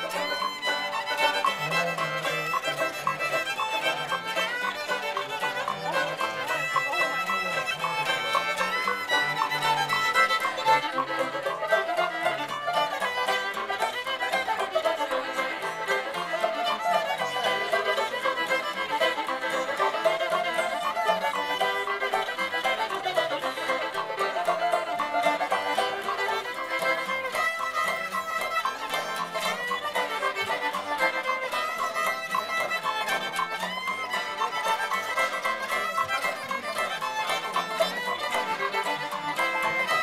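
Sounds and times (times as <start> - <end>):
bluegrass fiddle music: 0.0 - 40.0.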